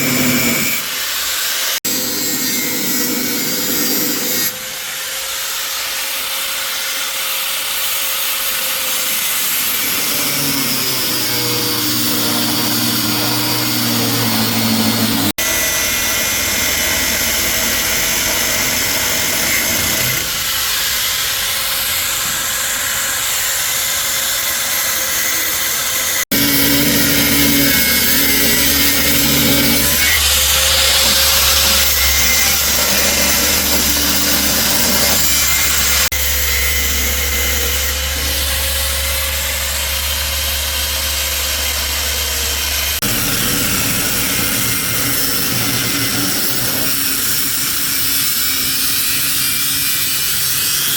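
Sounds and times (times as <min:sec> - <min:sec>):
handheld power tool running: 0:00.0 - 0:01.1, 0:01.8 - 0:50.9.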